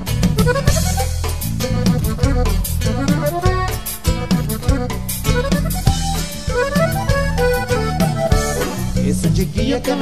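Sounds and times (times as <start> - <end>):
accordion melody: 0.0 - 10.0
bass: 0.0 - 10.0
steady drum beat: 0.0 - 10.0.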